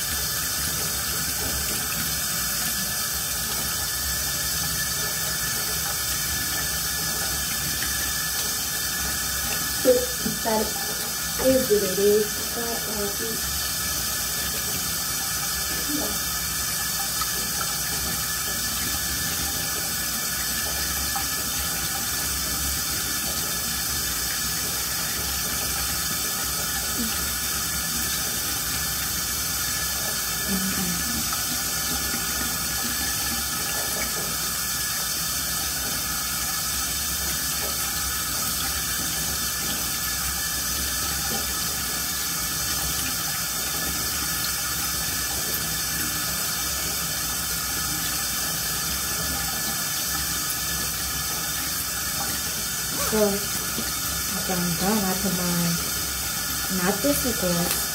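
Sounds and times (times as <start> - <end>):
sink tap running: 0.0 - 57.9.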